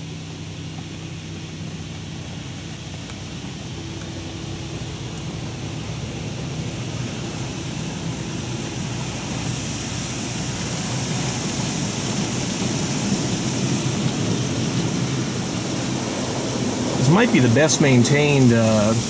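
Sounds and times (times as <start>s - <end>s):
car wash brushes and water spray: 0.0s - 19.0s
low hum: 0.0s - 19.0s.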